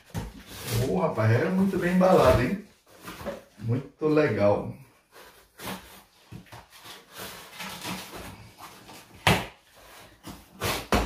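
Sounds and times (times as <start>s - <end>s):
cardboard and tape rustling: 0.0s - 3.9s, 4.9s - 11.0s.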